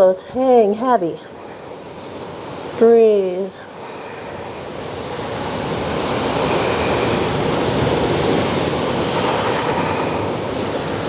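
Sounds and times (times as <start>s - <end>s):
ocean surf washing in: 1.3s - 11.0s.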